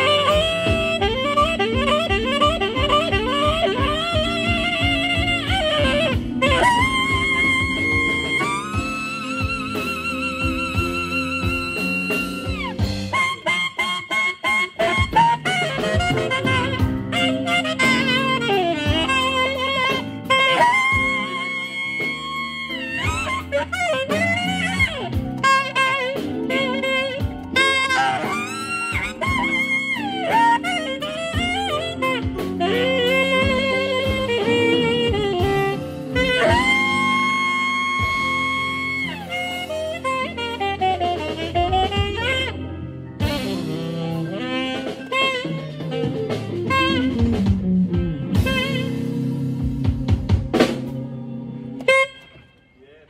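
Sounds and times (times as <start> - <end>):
drum kit with snare hits: 0.0 - 51.1
backing chords: 0.0 - 53.0
bass: 0.0 - 53.0
saxophone playing jazzy melody: 0.0 - 53.0.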